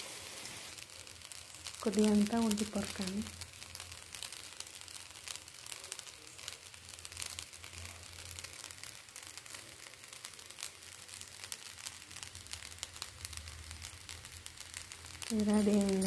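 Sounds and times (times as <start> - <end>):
rice crackling in a pan: 0.0 - 16.0.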